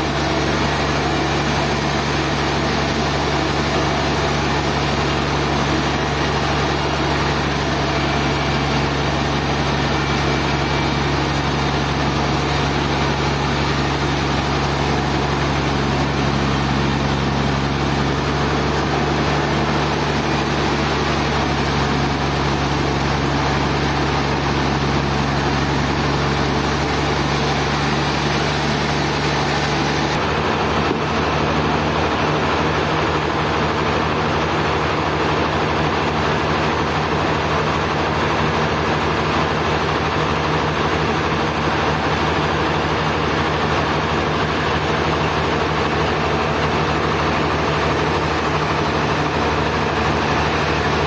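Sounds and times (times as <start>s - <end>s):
sawmill machinery drone: 0.0s - 51.0s.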